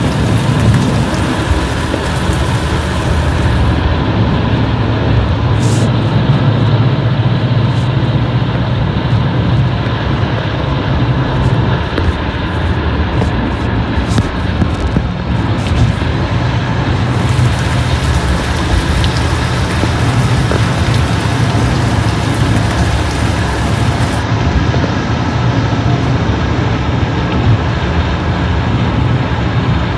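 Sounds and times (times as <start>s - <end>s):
vehicle travelling at speed: 0.0s - 29.9s.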